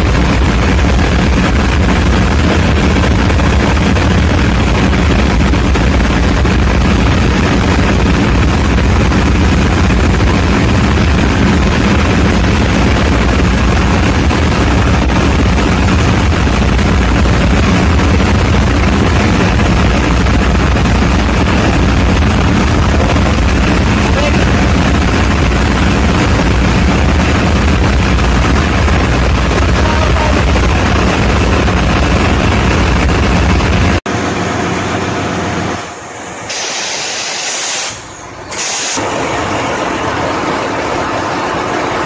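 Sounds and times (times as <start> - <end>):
diesel generator engine drone: 0.0 - 42.0.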